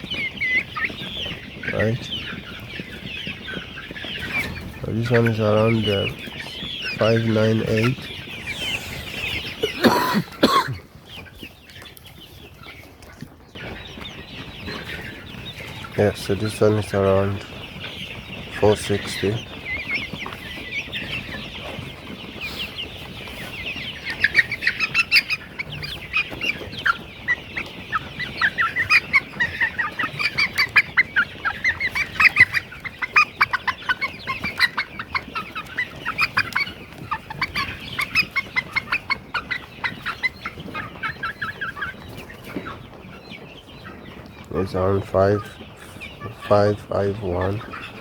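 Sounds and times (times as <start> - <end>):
chickens clucking and cheeping: 0.0 - 48.0.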